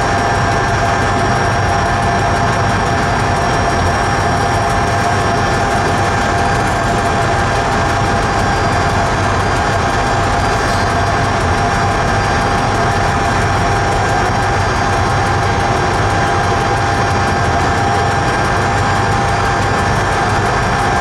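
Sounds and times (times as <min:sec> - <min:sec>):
train rumbling in tunnel: 0:00.0 - 0:21.0
whining tones: 0:00.0 - 0:21.0.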